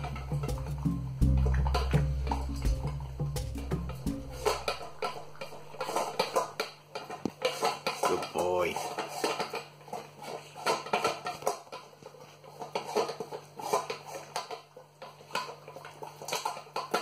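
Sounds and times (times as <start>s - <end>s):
puppy eating: 0.0s - 17.0s.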